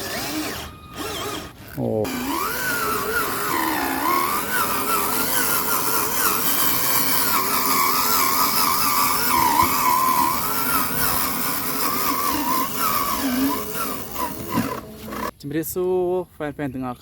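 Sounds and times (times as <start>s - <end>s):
toy truck motor whining: 0.0s - 15.3s.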